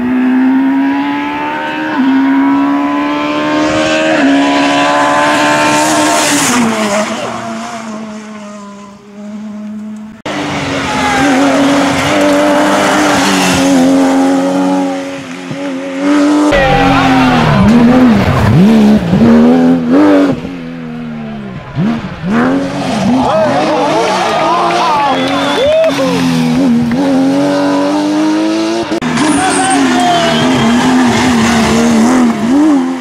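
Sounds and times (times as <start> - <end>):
rally car engines at full throttle: 0.0 - 33.0.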